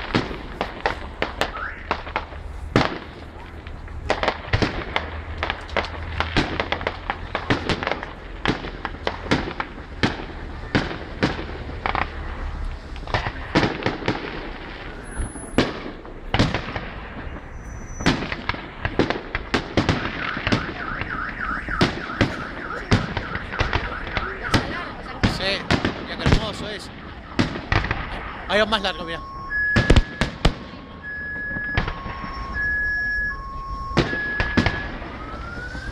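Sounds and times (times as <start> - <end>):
fireworks banging: 0.0 - 35.9.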